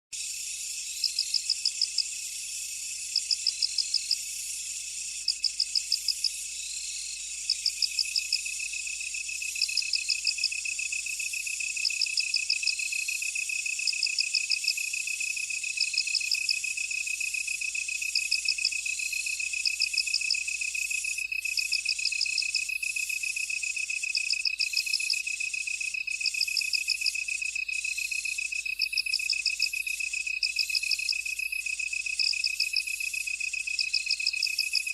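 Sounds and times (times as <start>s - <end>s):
high continuous insect trill: 0.2s - 34.9s
insect chirping in bursts: 0.2s - 34.9s.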